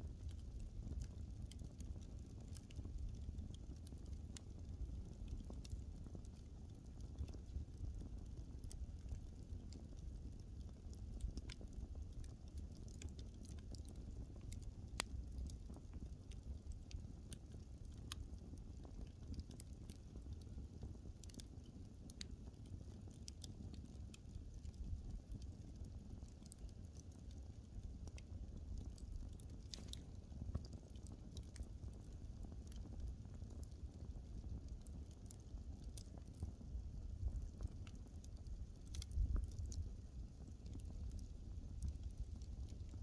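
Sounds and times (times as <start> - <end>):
low rumble of flame: 0.0 - 43.0
wood fire crackles and pops: 0.0 - 43.0.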